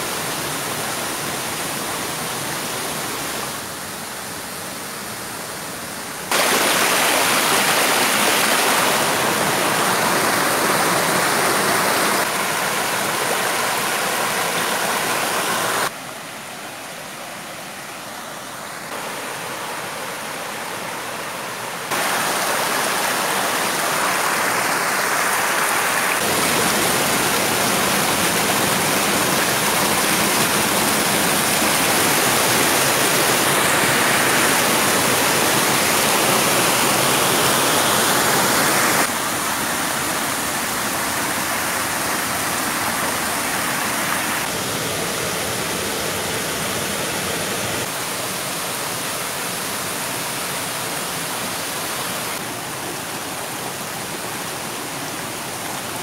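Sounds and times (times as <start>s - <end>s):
water rushing down a cascade: 0.0s - 56.0s.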